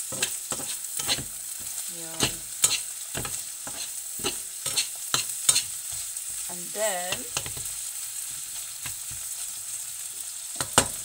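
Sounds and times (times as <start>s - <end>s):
spatula scraping and tapping pan: 0.0s - 6.5s, 7.1s - 9.5s, 10.6s - 11.0s
food sizzling in a frying pan: 0.0s - 11.0s.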